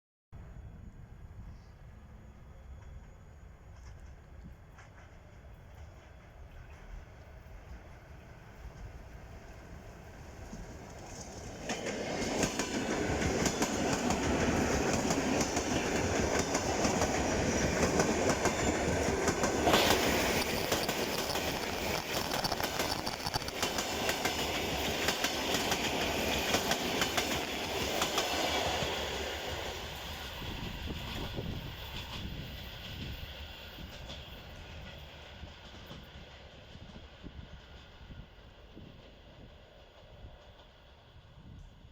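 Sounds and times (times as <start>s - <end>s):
train wheels clattering on rails: 2.8s - 7.1s, 10.4s - 41.6s.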